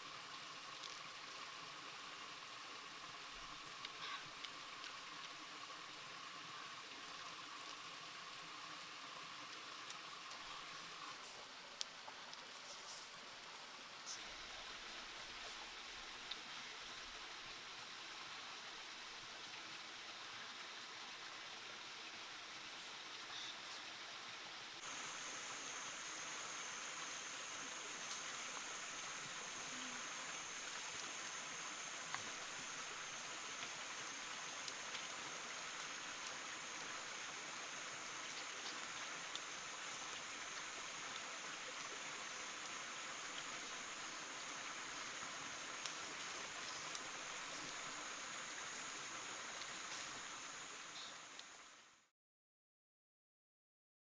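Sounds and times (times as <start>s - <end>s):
water flowing: 0.0s - 52.0s.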